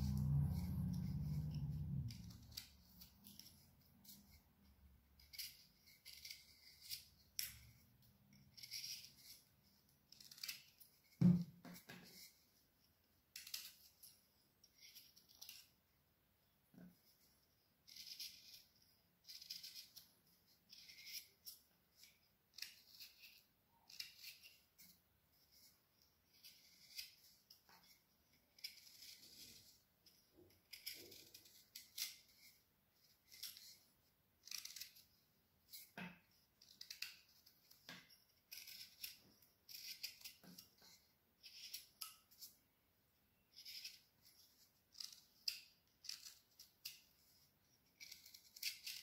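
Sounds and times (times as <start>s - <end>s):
knife scraping wood: 0.0s - 12.7s, 13.3s - 15.8s, 16.8s - 42.6s, 43.4s - 49.0s.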